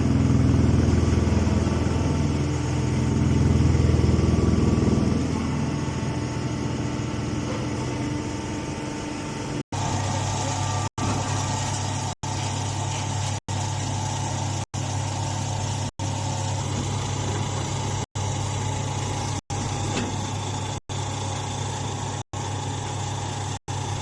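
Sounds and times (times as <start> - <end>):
baler machine humming and rattling: 0.0 - 24.0.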